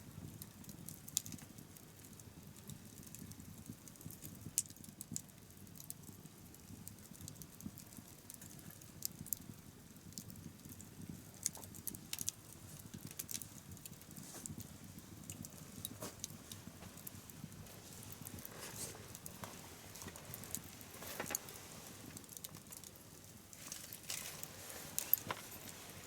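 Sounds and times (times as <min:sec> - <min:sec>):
bonfire crackling and popping: 0:00.1 - 0:26.0
low rush of burning fire: 0:00.1 - 0:26.0.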